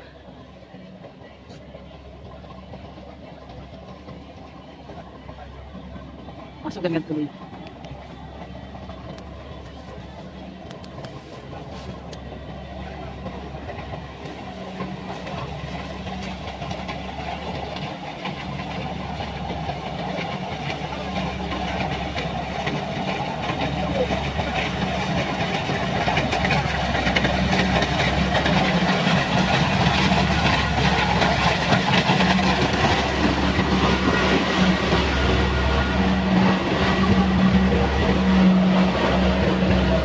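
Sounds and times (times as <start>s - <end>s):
combine harvester clattering: 0.0s - 40.0s.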